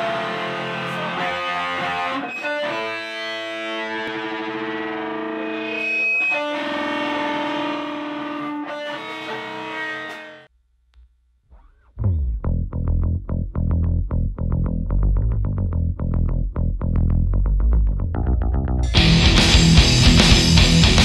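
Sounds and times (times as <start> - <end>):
distorted electric guitar chords: 0.0 - 10.5, 11.6 - 21.0.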